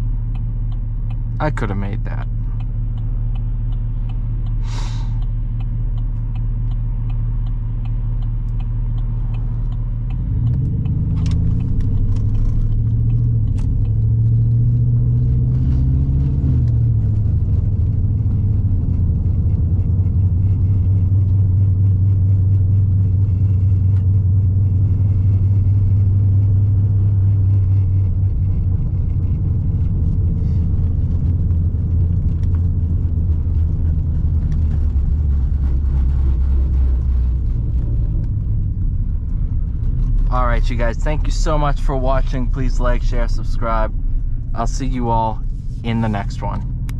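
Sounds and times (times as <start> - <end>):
truck engine accelerating: 0.0 - 46.9.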